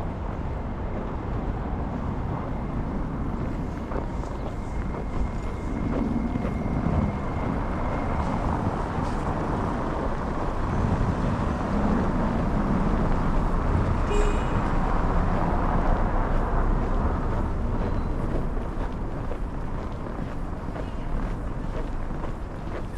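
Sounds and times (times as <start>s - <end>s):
street traffic rumble: 0.0s - 22.9s
wind buffeting microphone: 0.0s - 22.9s.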